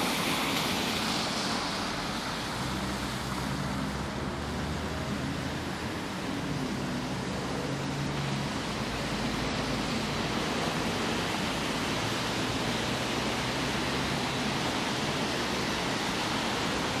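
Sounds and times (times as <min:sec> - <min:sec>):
tyres hissing on wet road: 0:00.0 - 0:17.0.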